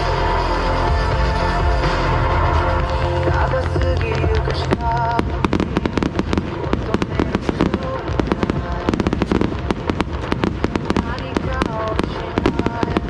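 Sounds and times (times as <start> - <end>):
fireworks bangs and crackles: 2.3 - 13.0.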